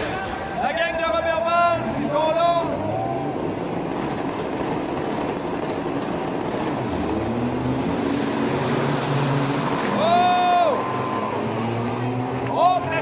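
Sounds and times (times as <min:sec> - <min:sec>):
diesel truck engines running: 0:00.0 - 0:13.0.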